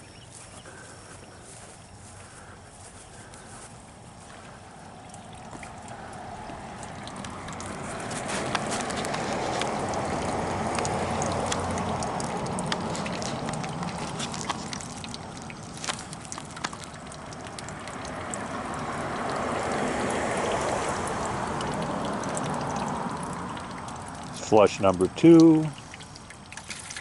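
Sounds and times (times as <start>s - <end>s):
water drips: 0.0s - 27.0s
water splashing from pipe: 1.8s - 27.0s.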